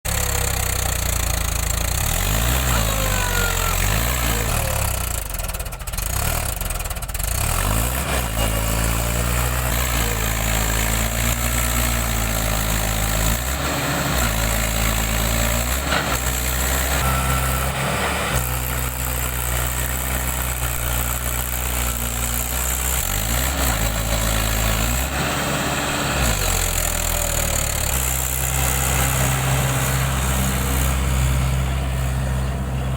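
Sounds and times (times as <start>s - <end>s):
tractor diesel engine labouring: 0.1s - 32.9s.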